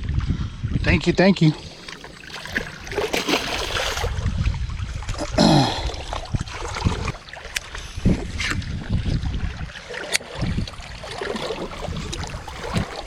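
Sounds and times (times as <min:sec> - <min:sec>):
water sloshing and splashing: 0:01.4 - 0:13.0.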